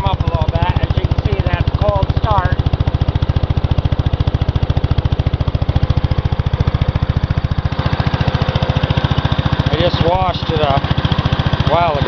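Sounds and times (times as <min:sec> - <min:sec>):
small engine chugging: 0:00.0 - 0:12.0.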